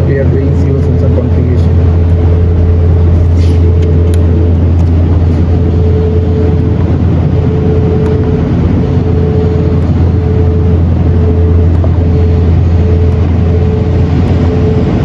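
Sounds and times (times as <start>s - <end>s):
ventilation fan droning: 0.0s - 15.0s.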